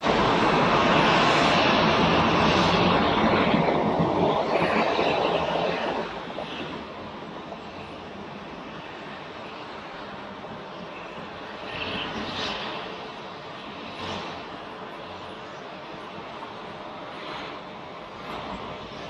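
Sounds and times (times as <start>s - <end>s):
turboprop engine rushing: 0.0s - 19.0s.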